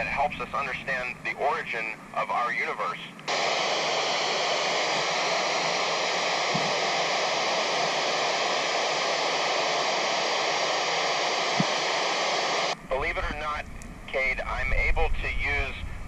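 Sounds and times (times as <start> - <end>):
radio static hiss: 0.0 - 15.8.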